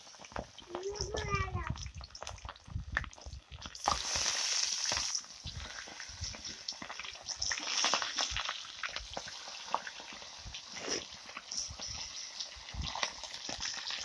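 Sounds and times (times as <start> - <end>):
oil sizzling and popping: 0.0 - 14.0.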